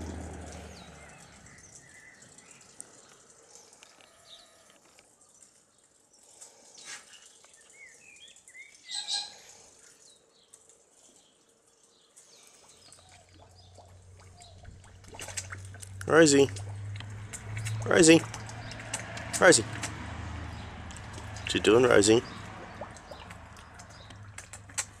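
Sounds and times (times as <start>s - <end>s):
pig splashing and slurping: 0.0s - 4.7s, 5.6s - 25.0s
small birds chirping: 0.0s - 25.0s.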